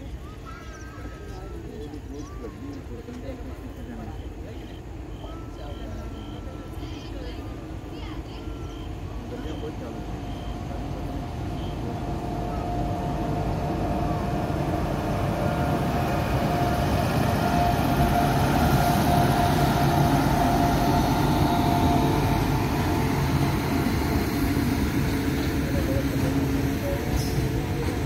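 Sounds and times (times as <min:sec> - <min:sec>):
electric locomotive whine: 0:00.2 - 0:28.0.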